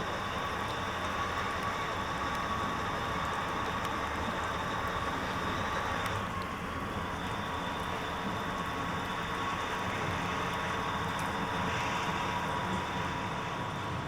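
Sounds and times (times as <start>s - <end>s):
locomotive running: 0.0s - 14.0s.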